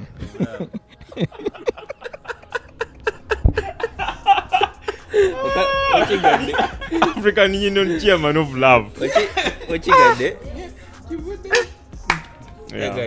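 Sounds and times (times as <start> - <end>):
men laughing: 0.0 - 11.8.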